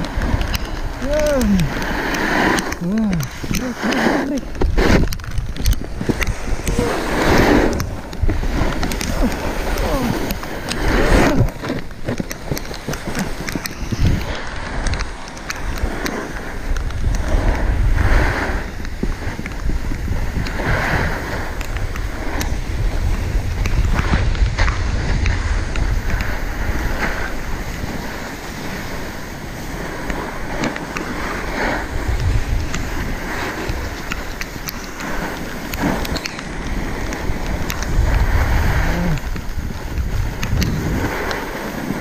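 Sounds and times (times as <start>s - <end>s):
snowboard scraping over snow: 0.0s - 42.0s
wind buffeting microphone: 0.0s - 42.0s.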